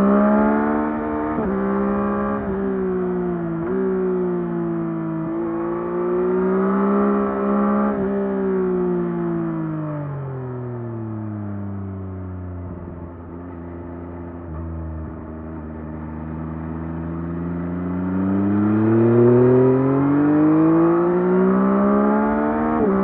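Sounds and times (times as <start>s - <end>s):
motorcycle engine revving: 0.0s - 9.7s, 12.6s - 23.0s.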